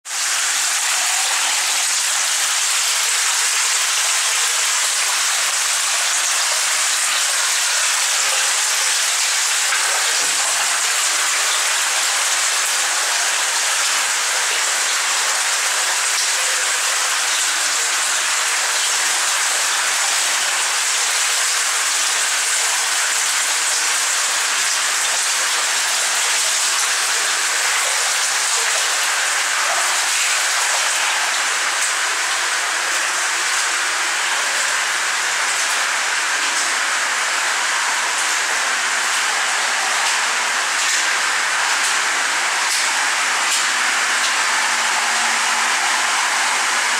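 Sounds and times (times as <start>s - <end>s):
water dripping into a pool: 0.1s - 46.9s.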